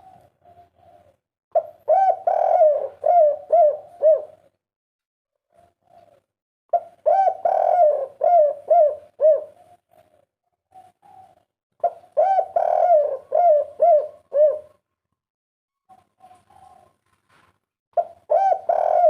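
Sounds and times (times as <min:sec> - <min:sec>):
dove cooing: 0:00.0 - 0:04.6, 0:05.4 - 0:14.9, 0:15.8 - 0:17.2, 0:18.0 - 0:19.0.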